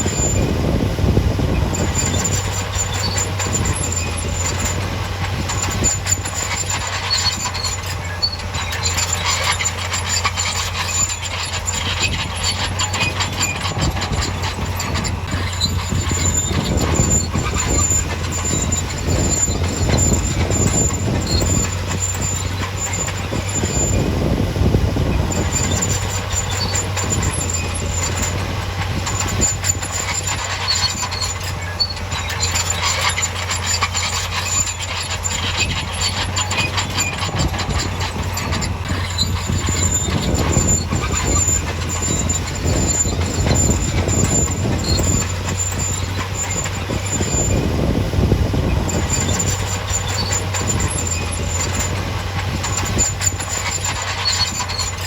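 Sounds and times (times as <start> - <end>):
diesel engine droning: 0.0 - 55.0
high squeal from tracks: 0.0 - 55.0
steel tracks clanking: 0.0 - 55.0.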